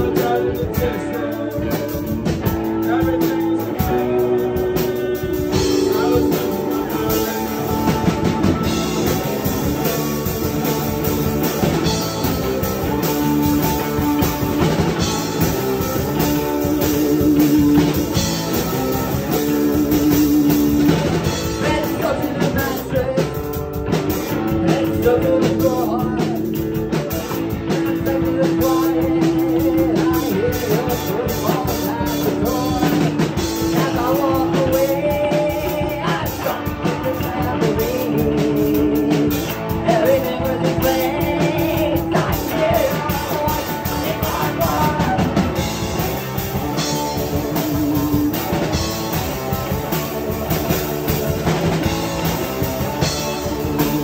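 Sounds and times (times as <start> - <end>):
drum beat: 0.0 - 54.0
rock band playing: 0.0 - 54.0.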